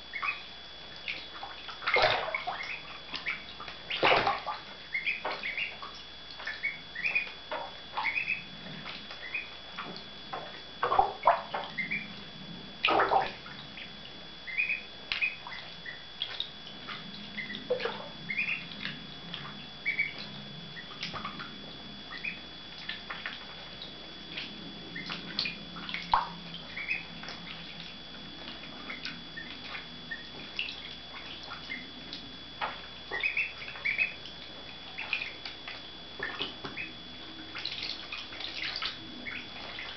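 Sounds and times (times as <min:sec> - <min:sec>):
water splashing: 0:00.0 - 0:12.1, 0:12.8 - 0:39.9
ducklings peeping: 0:00.0 - 0:21.5, 0:22.1 - 0:39.9
faint high whine: 0:00.0 - 0:39.9.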